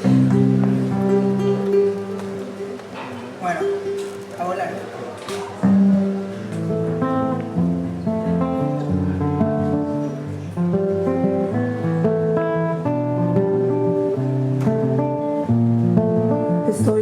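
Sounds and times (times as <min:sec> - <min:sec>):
acoustic guitar plucked melody: 0:00.0 - 0:04.3, 0:05.5 - 0:17.0.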